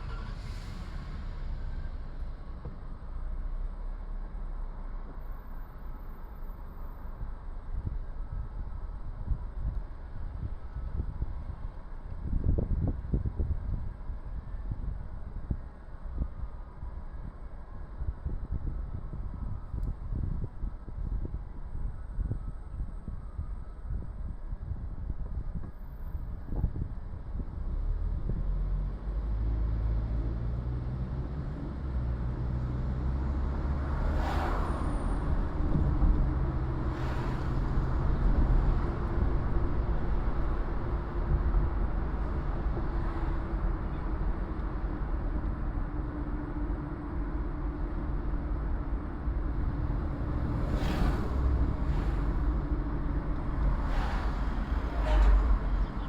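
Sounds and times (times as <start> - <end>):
car engine hum and road noise: 0.0 - 56.0.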